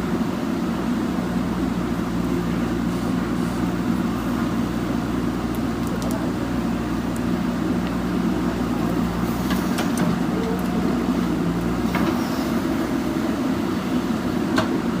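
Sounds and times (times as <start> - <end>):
diesel machinery engine running: 0.0 - 15.0.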